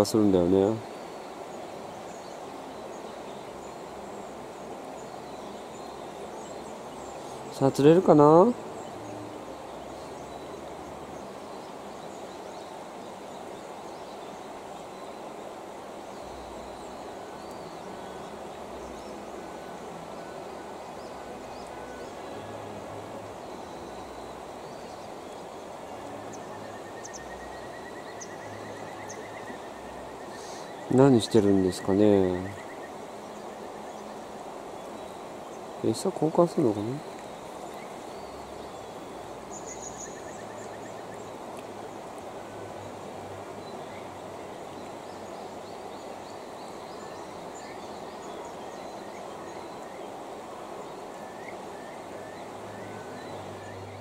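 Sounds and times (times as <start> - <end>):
river water flowing: 0.0 - 54.0
small birds chirping: 0.0 - 54.0.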